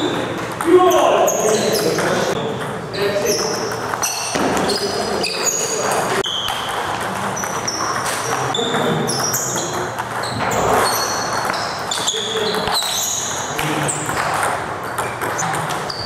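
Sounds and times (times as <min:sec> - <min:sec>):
table tennis balls clicking: 0:00.3 - 0:16.0.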